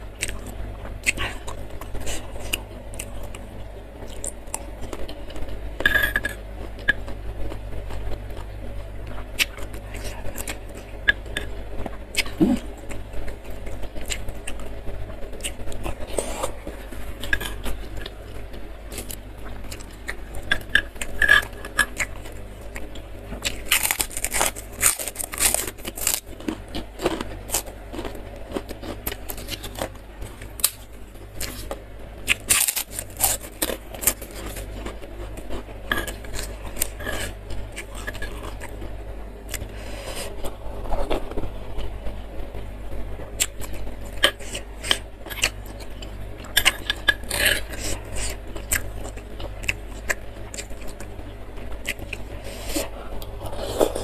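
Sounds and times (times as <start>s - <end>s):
wet chewing and crunching: 0.2s - 41.9s, 43.4s - 54.0s.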